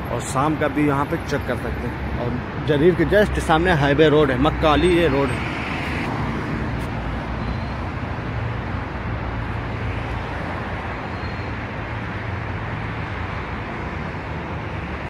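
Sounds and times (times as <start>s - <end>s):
highway traffic noise: 0.0s - 15.0s.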